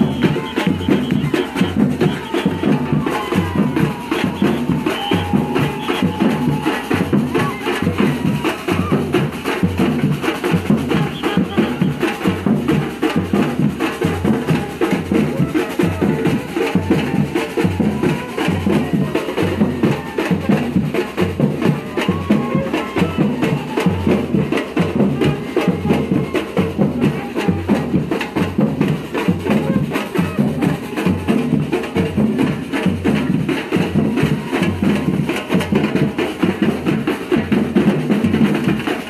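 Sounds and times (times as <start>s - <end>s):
bass drums beating: 0.0s - 38.9s
snare and percussion pattern: 0.0s - 39.0s.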